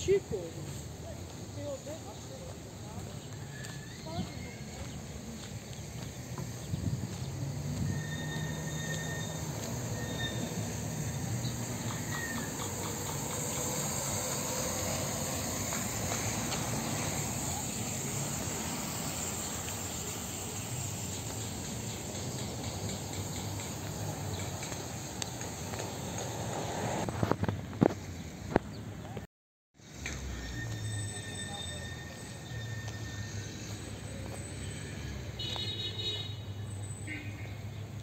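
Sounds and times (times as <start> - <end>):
street traffic rumble: 0.0 - 38.0.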